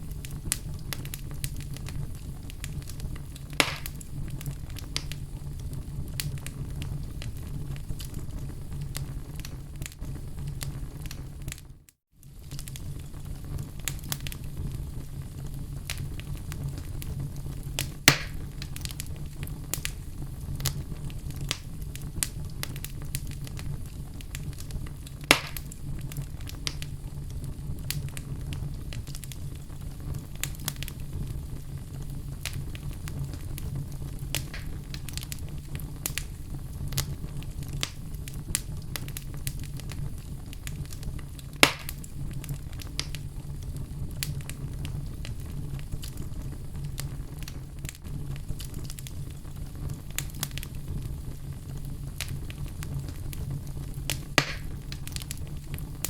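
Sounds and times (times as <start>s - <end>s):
loud fire pops: 0.0s - 56.0s
wood fire crackling: 0.0s - 56.0s.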